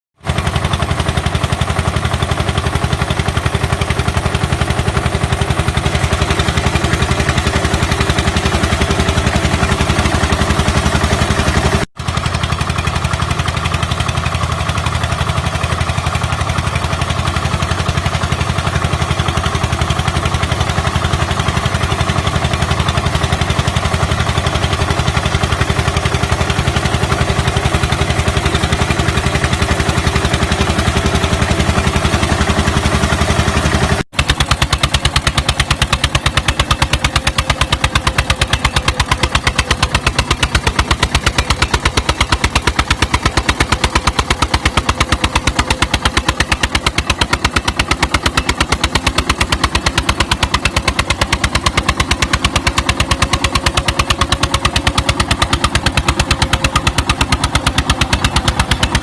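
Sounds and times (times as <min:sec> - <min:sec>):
tractor diesel engine knocking: 0:00.2 - 0:59.0.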